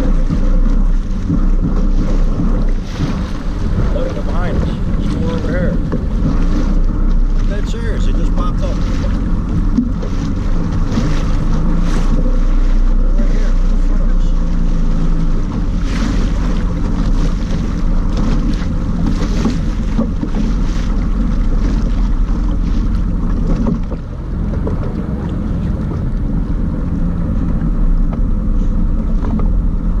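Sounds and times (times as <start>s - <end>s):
personal watercraft engine: 0.0s - 30.0s
water rushing: 0.0s - 30.0s
wind buffeting microphone: 0.0s - 30.0s.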